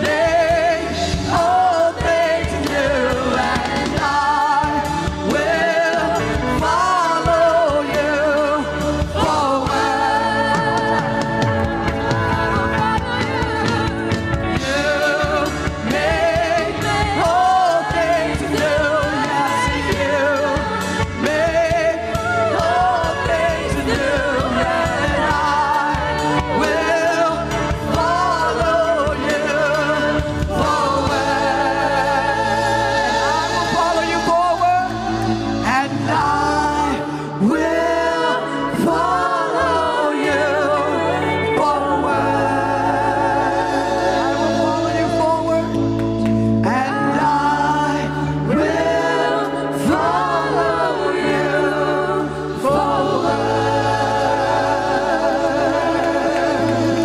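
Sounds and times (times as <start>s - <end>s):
choir and lead singers singing: 0.0s - 57.0s
live band playing: 0.0s - 57.0s.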